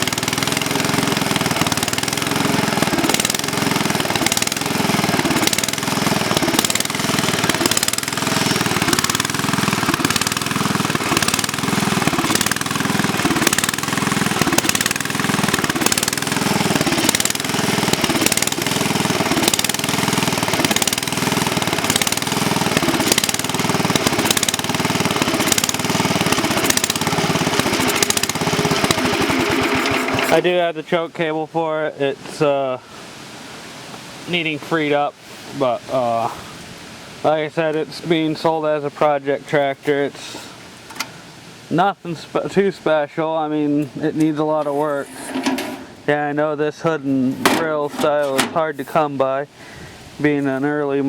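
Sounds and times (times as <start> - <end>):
garden tractor engine running: 0.0 - 31.6, 37.3 - 51.0.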